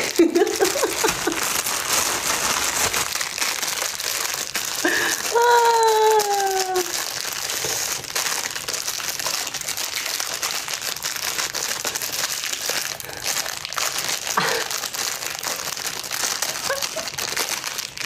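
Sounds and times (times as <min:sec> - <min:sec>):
plastic sachet crinkling: 0:00.0 - 0:18.0.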